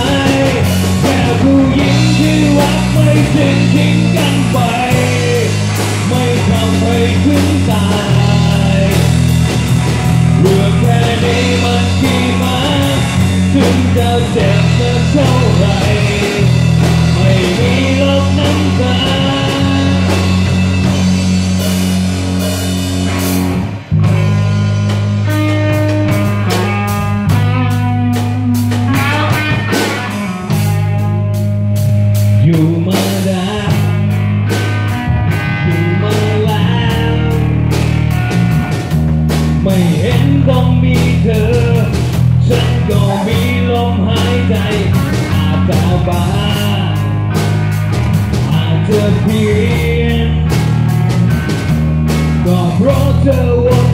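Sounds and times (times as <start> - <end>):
bass guitar: 0.0 - 53.9
drum kit: 0.0 - 53.9
electric guitar lead: 0.0 - 53.9.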